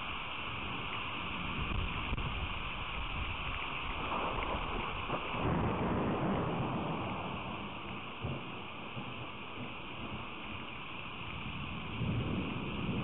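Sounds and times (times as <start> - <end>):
rain hissing: 0.0 - 13.0
wind buffeting microphone: 0.6 - 10.3, 11.2 - 13.0.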